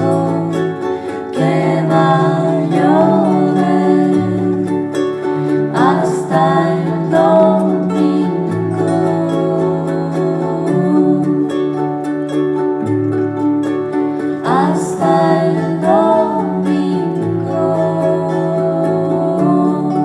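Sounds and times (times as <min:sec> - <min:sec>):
plucked string song: 0:00.0 - 0:20.0.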